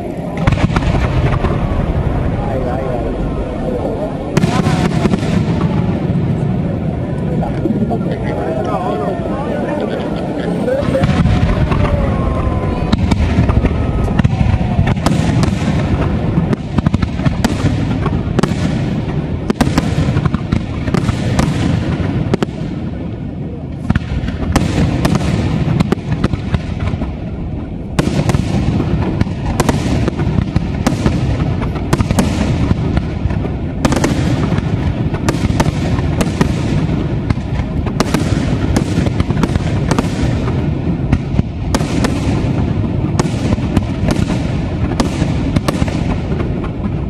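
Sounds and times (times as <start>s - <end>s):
constant low rumble: 0.0s - 47.0s.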